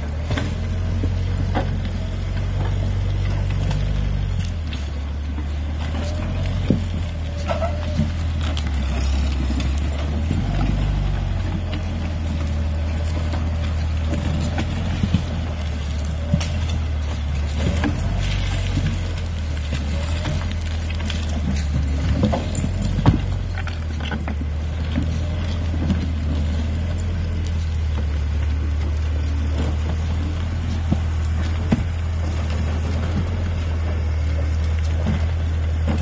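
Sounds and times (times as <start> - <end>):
diesel tractor engine: 0.0 - 36.0
logs dragging over ground: 0.0 - 36.0.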